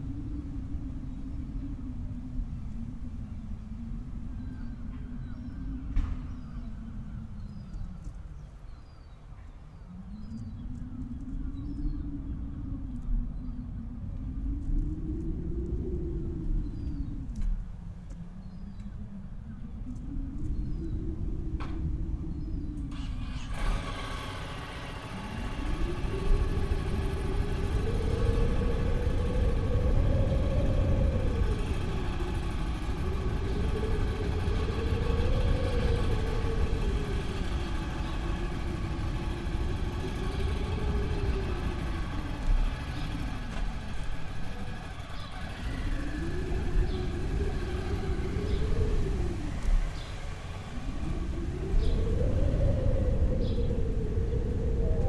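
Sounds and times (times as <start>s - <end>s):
wind blowing in gusts: 0.0s - 55.0s.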